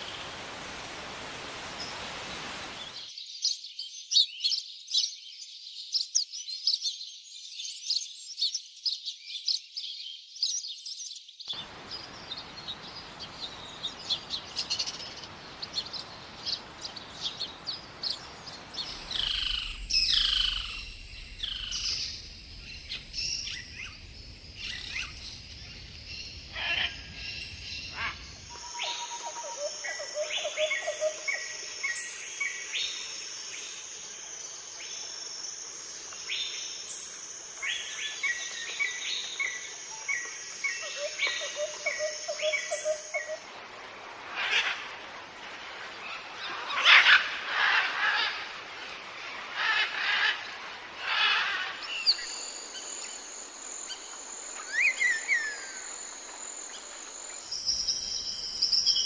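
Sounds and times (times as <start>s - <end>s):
birds calling and chirping: 0.0s - 35.0s, 36.1s - 43.5s, 45.8s - 59.0s.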